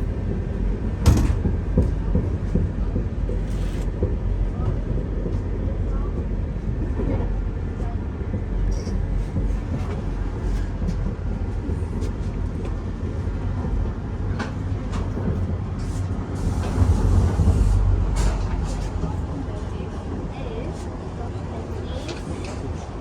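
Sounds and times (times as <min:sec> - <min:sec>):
passenger train rumbling: 0:00.0 - 0:23.0.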